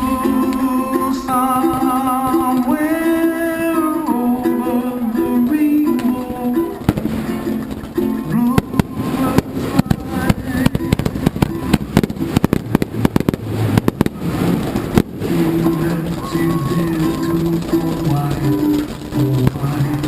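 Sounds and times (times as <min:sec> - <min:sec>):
music playing: 0:00.0 - 0:12.4, 0:14.2 - 0:20.0
fireworks popping and banging: 0:00.0 - 0:20.0.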